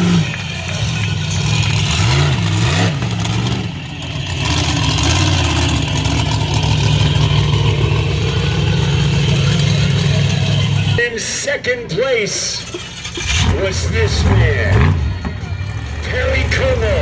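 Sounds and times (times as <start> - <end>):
truck engine revving: 0.0 - 11.1, 12.4 - 17.0.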